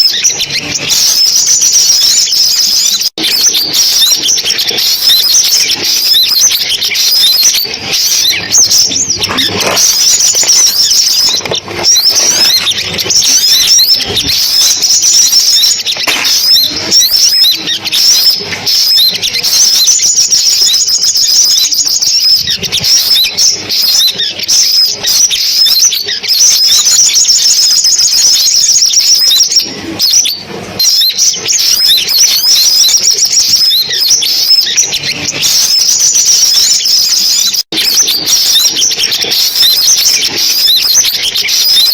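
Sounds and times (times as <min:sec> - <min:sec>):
sunbirds chirping and trilling: 0:00.0 - 0:41.9.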